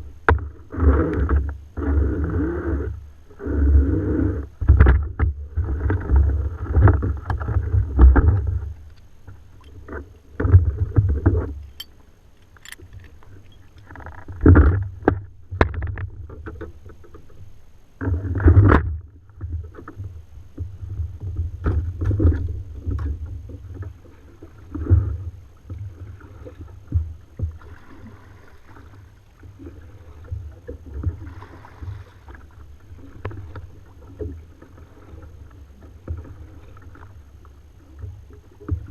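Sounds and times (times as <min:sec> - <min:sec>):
kayak knocks and rumbles on water: 0:00.0 - 0:11.7, 0:13.4 - 0:17.4, 0:18.0 - 0:38.9.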